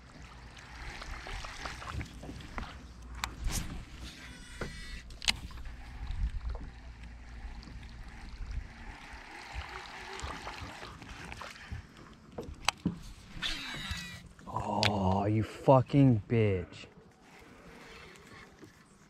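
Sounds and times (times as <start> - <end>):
water lapping against hull: 0.0 - 15.2, 16.7 - 19.0.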